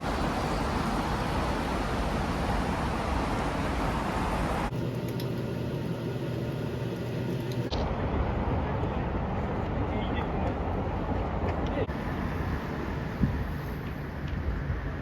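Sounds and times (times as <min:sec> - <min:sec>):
city street traffic: 0:00.0 - 0:04.7, 0:07.4 - 0:15.0.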